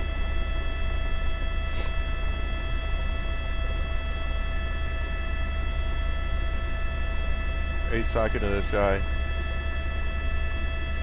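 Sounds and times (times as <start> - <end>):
helicopter cabin rumble: 0.0 - 11.0.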